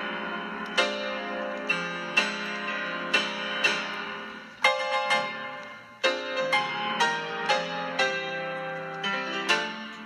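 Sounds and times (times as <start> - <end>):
slow keyboard chords: 0.0 - 10.0.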